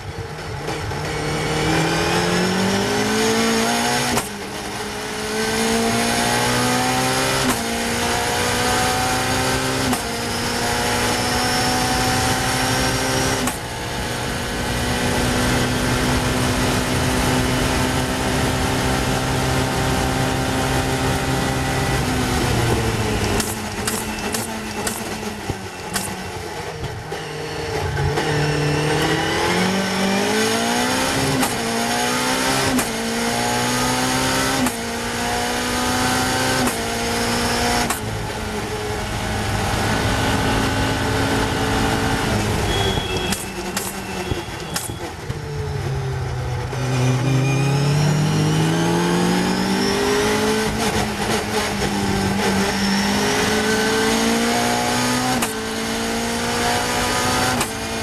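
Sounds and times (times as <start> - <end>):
race car engine revving through gears: 0.0 - 58.0.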